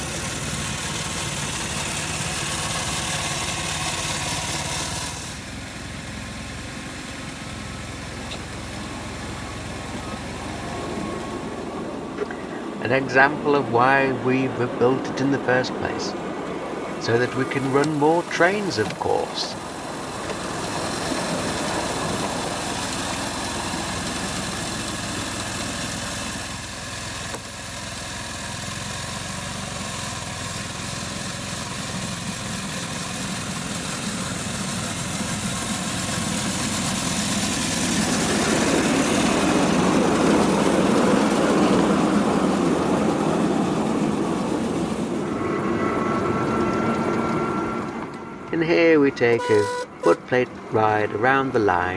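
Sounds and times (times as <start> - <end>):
miniature train running on track: 0.0 - 51.9.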